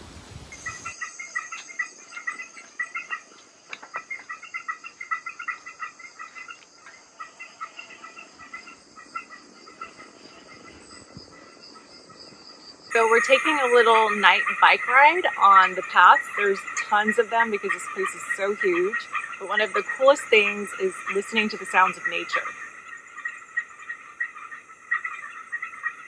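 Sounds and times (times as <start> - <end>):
insects chirping: 0.0 - 26.0
insects trilling: 0.0 - 26.0.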